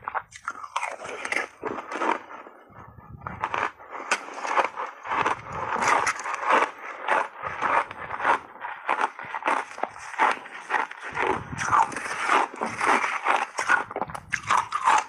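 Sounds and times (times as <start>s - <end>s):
chewing ice crunches: 0.0s - 2.6s, 3.3s - 15.0s.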